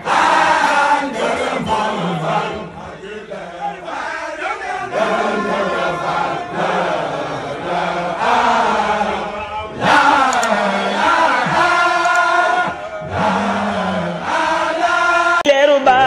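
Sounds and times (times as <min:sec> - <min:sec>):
crowd chanting in unison: 0:00.0 - 0:15.5.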